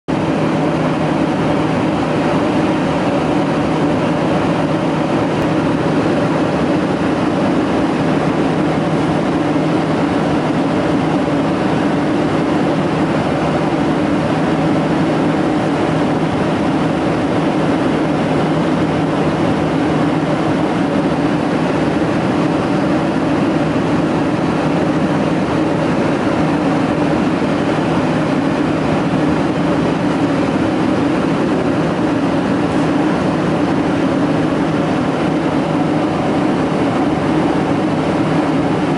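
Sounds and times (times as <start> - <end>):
airflow rushing in aircraft cabin: 0.1 - 38.9
low engine hum: 0.1 - 38.9.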